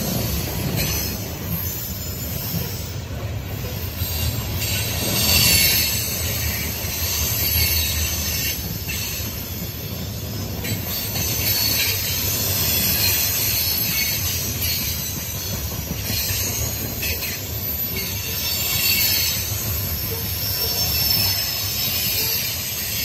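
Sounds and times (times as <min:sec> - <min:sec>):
high wheel squeal and hiss: 0:00.0 - 0:23.0
steel wheels rumbling on rail: 0:00.0 - 0:23.0.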